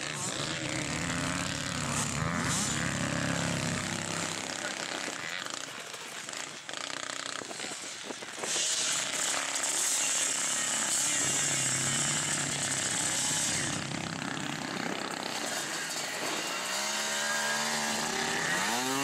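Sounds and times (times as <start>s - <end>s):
loud hissing engine: 0.0s - 19.0s
quad bike engines running: 0.0s - 19.0s.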